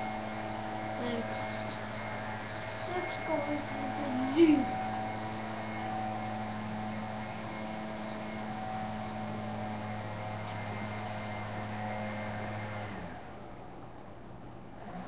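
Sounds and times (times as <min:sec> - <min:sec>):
machine hum with hiss: 0:00.0 - 0:15.0.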